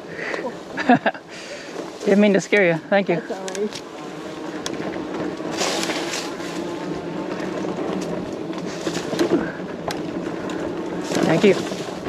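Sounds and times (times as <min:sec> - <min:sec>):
electric bike tire and drive noise: 0:00.0 - 0:12.0.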